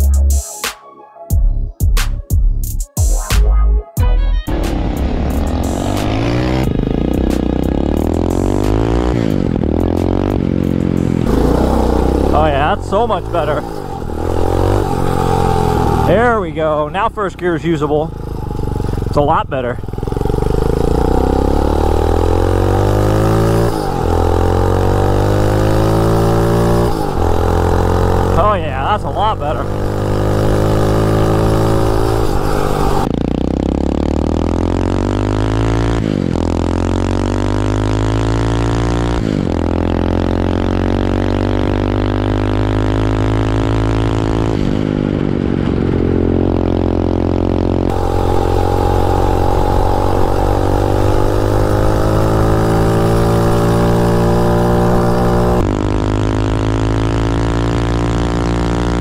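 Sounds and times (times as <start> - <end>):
dirt bike engine accelerating: 4.5 - 59.0.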